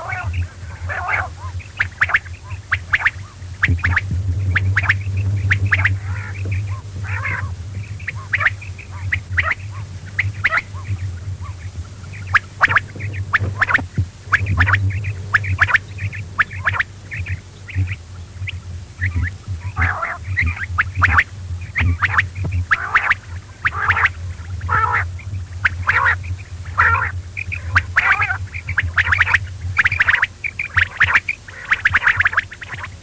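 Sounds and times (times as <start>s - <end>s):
quail calling: 0.0s - 33.0s
steady low hum: 0.0s - 33.0s.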